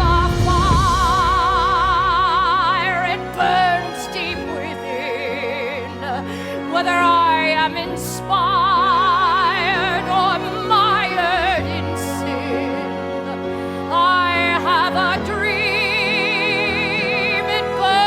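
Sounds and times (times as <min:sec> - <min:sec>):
orchestral accompaniment: 0:00.0 - 0:18.0
person singing with vibrato: 0:00.0 - 0:18.0.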